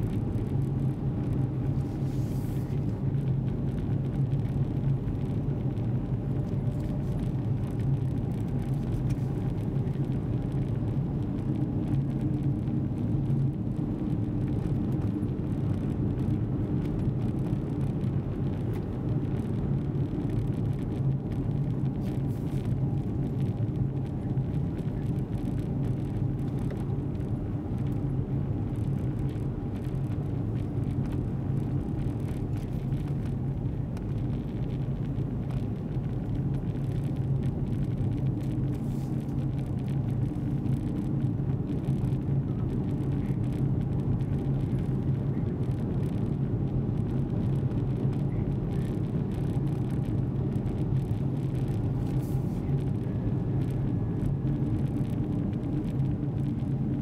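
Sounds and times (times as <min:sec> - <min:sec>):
car driving heard from cabin: 0:00.0 - 0:57.0.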